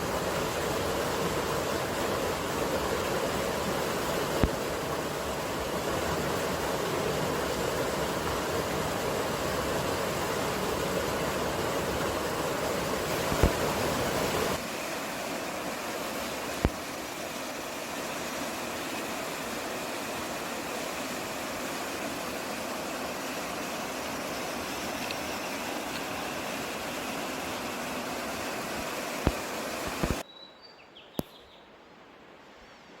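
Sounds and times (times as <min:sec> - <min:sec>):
running water: 0:00.0 - 0:30.2
wind: 0:00.0 - 0:33.0.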